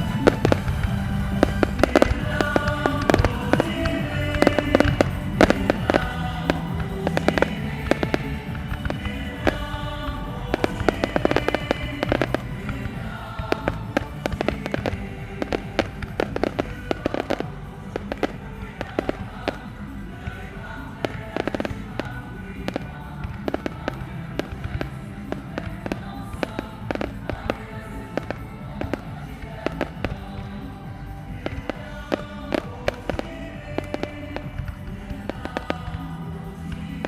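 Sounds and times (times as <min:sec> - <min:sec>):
fireworks bangs and crackles: 0:00.0 - 0:37.0
music playing: 0:00.0 - 0:37.0.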